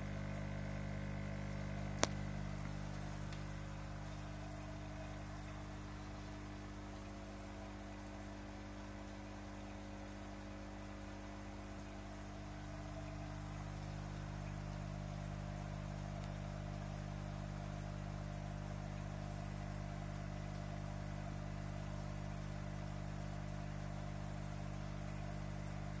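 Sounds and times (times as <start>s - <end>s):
aquarium pump humming: 0.0s - 26.0s.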